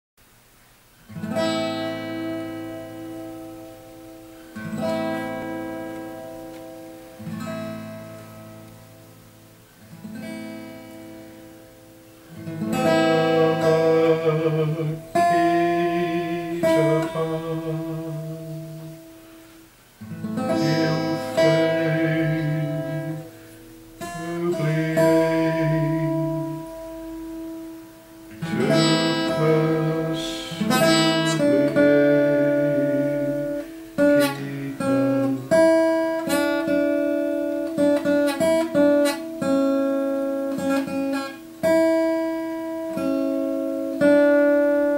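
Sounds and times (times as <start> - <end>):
acoustic guitar playing: 1.0 - 44.9.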